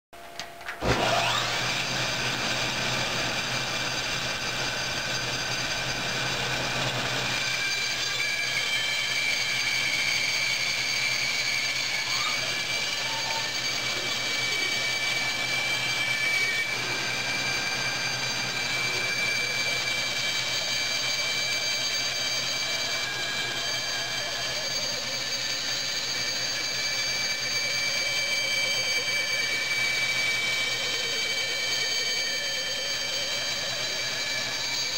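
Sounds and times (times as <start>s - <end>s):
band saw whining: 0.3s - 34.9s.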